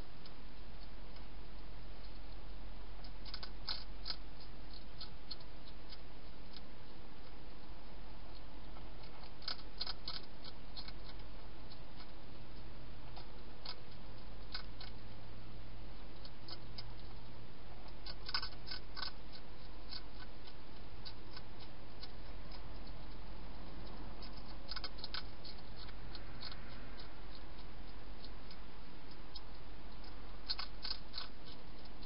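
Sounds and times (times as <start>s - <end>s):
steady low hum: 0.0s - 32.0s
hedgehog crunching dry food: 0.2s - 32.0s.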